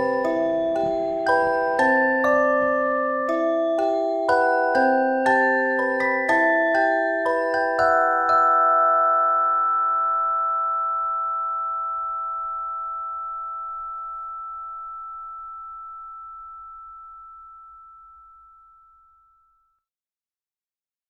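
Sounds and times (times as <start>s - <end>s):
bell-like mallet chord ringing: 0.0s - 19.5s.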